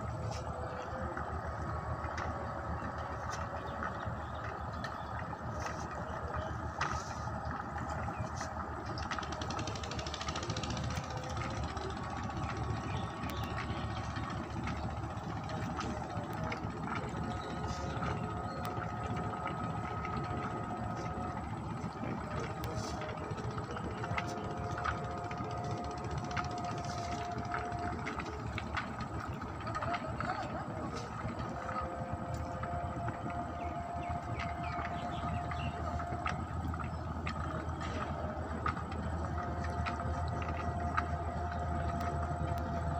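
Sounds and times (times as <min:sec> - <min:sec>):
small boat engine running: 0:00.0 - 0:42.9.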